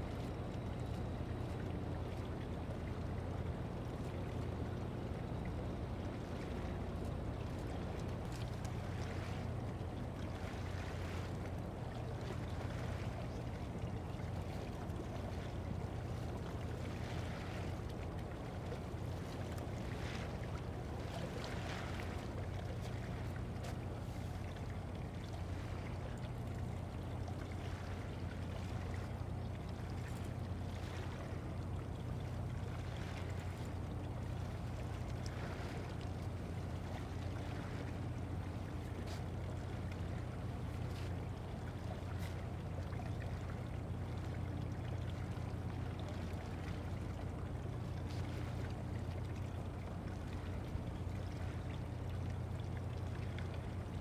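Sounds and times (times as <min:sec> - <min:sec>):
ship engine low drone: 0:00.0 - 0:54.0.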